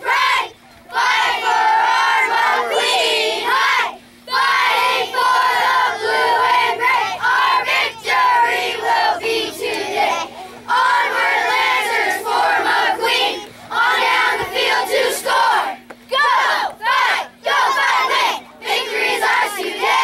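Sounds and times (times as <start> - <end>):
crowd shouting and chanting: 0.0 - 20.0.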